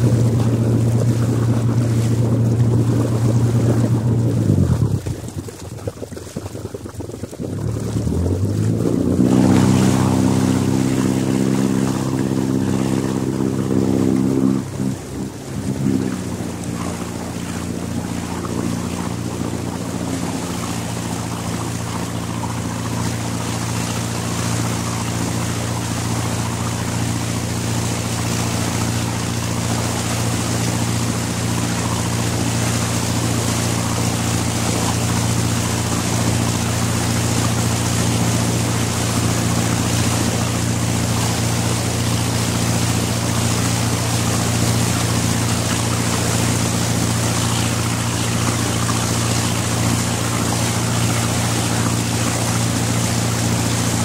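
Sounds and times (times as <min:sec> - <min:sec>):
diesel boat engine running: 0:00.0 - 0:54.0
rush of stern wash: 0:00.0 - 0:54.0.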